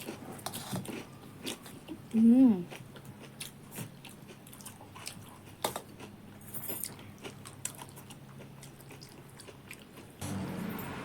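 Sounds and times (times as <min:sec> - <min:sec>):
crunchy chewing: 0:00.0 - 0:06.1, 0:06.7 - 0:10.2.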